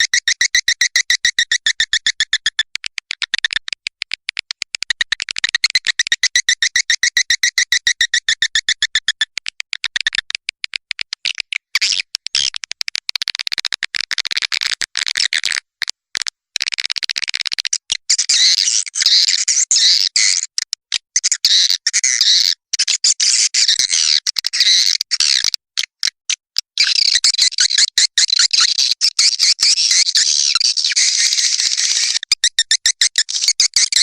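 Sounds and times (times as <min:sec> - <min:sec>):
recorded swiftlet calls: 0:00.0 - 0:34.0.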